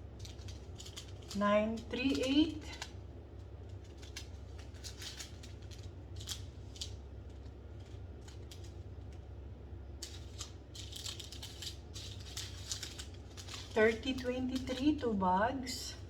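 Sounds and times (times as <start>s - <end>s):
low steady hum: 0.0s - 16.0s
plastic bags crinkling: 0.1s - 9.3s, 9.9s - 15.2s.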